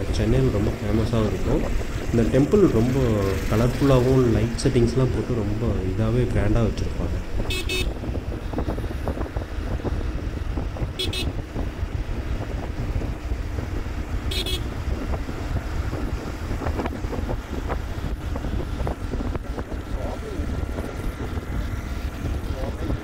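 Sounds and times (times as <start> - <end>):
road rumble: 0.0 - 23.0
wind buffeting microphone: 0.0 - 23.0.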